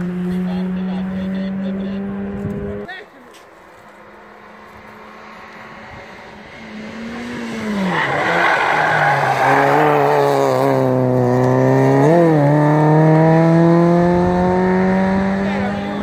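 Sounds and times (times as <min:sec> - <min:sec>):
race car engine accelerating: 0:00.0 - 0:02.9, 0:04.0 - 0:16.0.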